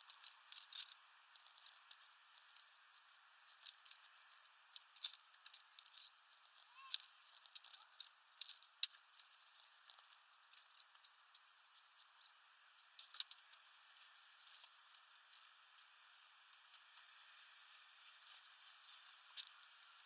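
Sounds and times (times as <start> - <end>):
birds pecking and cracking seeds: 0.0 - 20.0.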